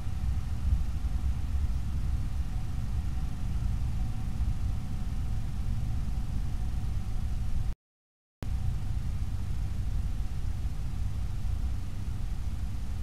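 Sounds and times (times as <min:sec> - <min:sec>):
faint thin whine: 0:00.0 - 0:07.8, 0:08.5 - 0:13.0
low rumble with hiss: 0:00.0 - 0:07.8, 0:08.4 - 0:13.0.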